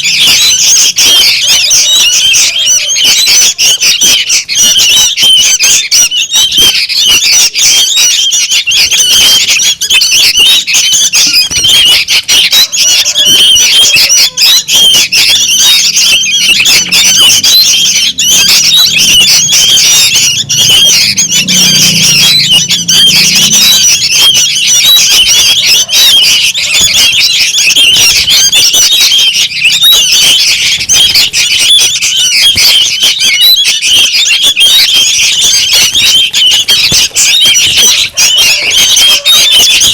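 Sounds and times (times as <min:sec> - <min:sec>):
bulbul chicks squawking calls: 0:00.0 - 0:39.9.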